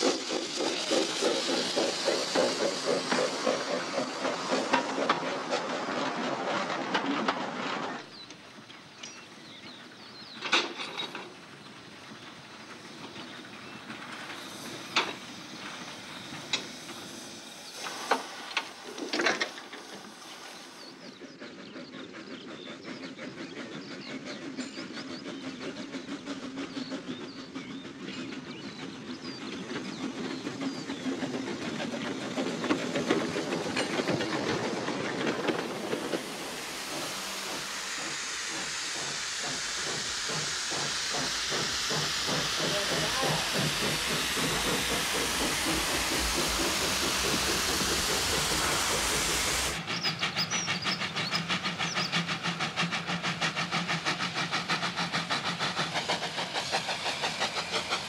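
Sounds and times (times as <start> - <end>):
steam train clanks: 0.0 - 58.0
train wheels rumbling and clicking: 0.0 - 58.0.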